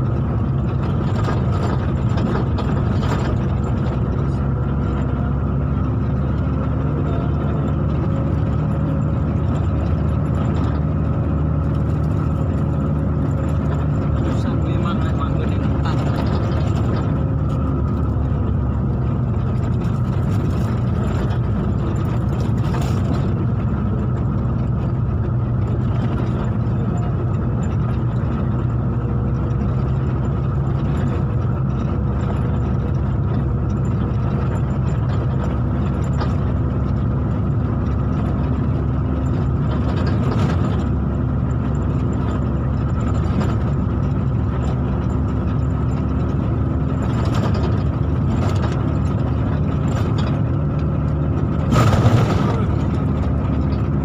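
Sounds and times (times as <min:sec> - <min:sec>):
road noise: 0:00.0 - 0:54.0
vehicle engine running: 0:00.0 - 0:54.0.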